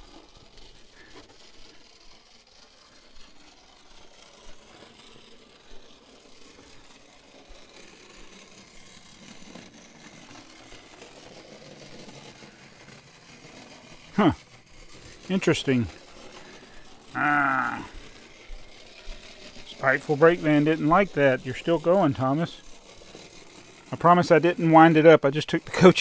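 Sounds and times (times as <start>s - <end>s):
clockwork toy train whirring: 0.0s - 26.0s.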